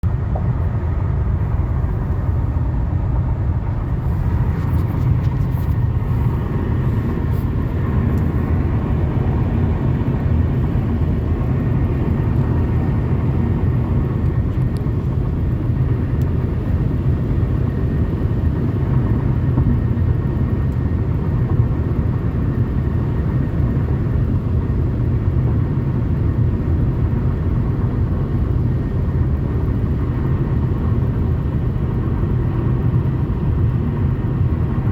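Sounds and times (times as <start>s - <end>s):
road rumble inside moving car: 0.0s - 34.9s.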